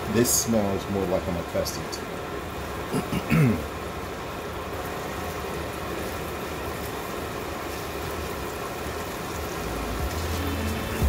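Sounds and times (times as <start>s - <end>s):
sausage sizzling in a pan: 0.0s - 11.0s.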